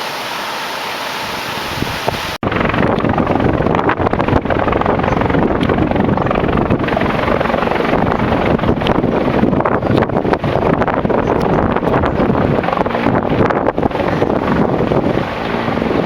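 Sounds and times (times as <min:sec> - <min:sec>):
helicopter rotor and turbine: 0:00.0 - 0:16.0
wind buffeting microphone: 0:01.2 - 0:16.0.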